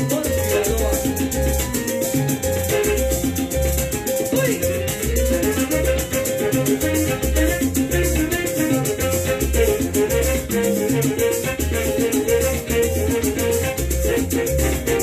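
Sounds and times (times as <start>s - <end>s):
maracas shaken: 0.0s - 15.0s
salsa music with bass line: 0.0s - 15.0s.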